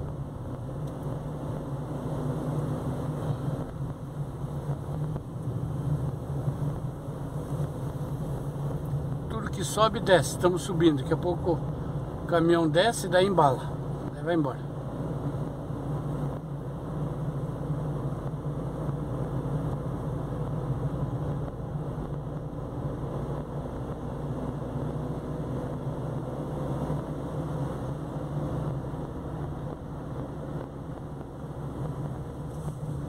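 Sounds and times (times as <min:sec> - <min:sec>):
car engine hum: 0:00.0 - 0:33.0
tyre road noise: 0:00.0 - 0:33.0.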